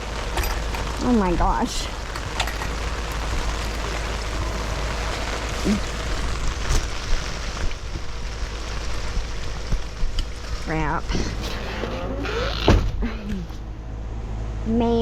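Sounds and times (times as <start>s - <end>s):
heavy rain pouring: 0.0s - 12.6s
low steady rumble: 0.0s - 15.0s.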